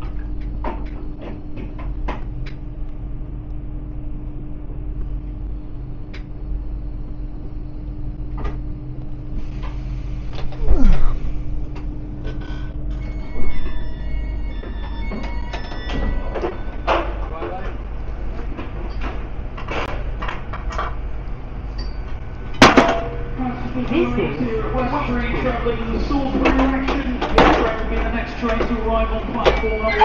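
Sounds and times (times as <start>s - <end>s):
train rumble and hum: 0.0s - 30.0s.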